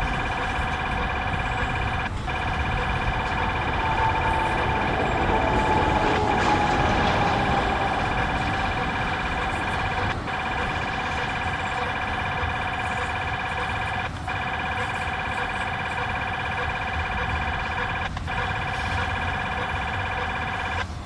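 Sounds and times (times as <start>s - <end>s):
low rumble of train: 0.0s - 21.0s
train wheels squealing: 0.0s - 21.0s.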